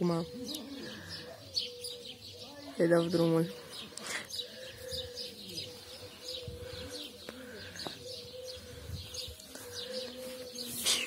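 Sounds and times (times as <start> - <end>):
dove cooing: 0.0 - 11.0
small birds chirping: 0.0 - 11.0.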